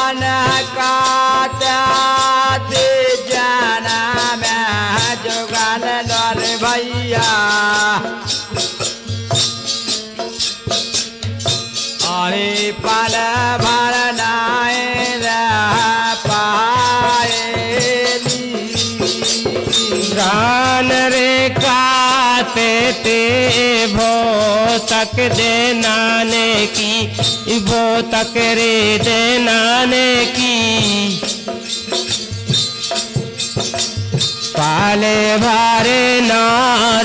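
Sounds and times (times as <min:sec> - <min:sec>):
men singing: 0:00.0 - 0:32.0, 0:34.5 - 0:37.0
hand drum beats: 0:00.0 - 0:37.0
jingling rattle: 0:00.0 - 0:37.0.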